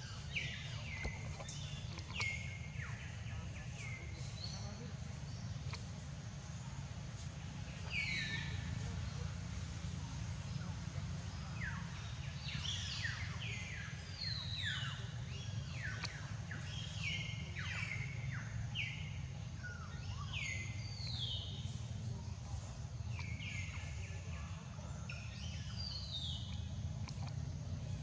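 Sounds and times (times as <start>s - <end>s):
birds chirping: 0.0s - 28.0s
steady low rumble: 0.0s - 28.0s.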